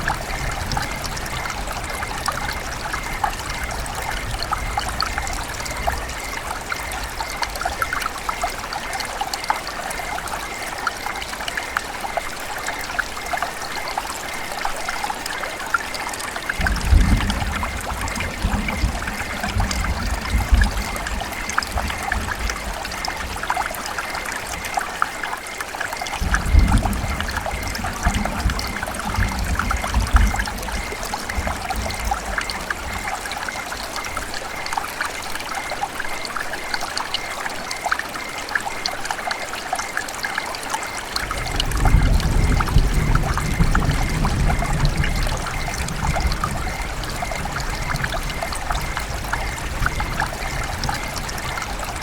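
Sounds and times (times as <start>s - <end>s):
river water trickling and splashing: 0.0s - 52.0s.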